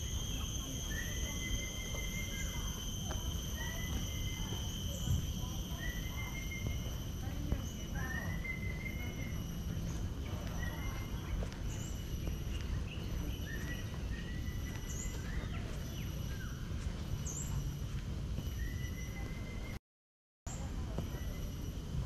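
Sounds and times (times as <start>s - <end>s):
high insect drone: 0.0s - 19.7s.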